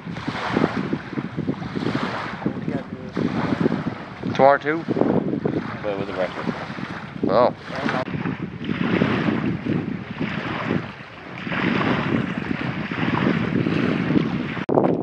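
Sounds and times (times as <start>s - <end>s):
small waves lapping: 0.0s - 14.7s
wind gusting on microphone: 0.0s - 15.0s.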